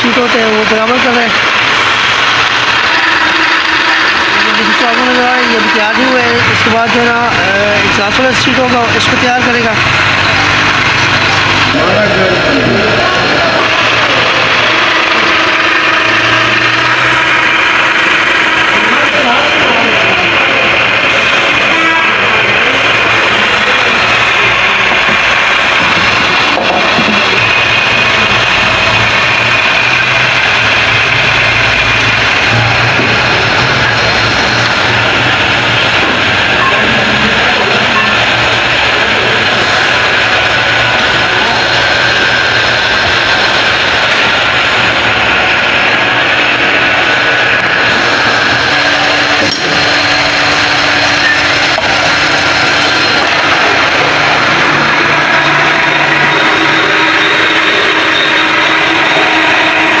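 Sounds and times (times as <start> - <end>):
valve seat grinding machine: 0.0 - 60.0.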